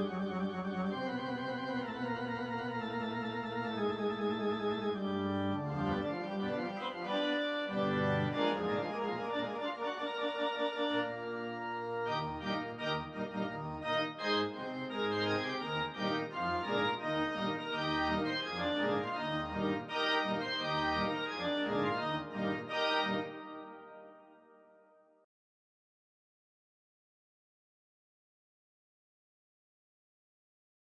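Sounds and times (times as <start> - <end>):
instrumental music with held chords: 0.0 - 25.1.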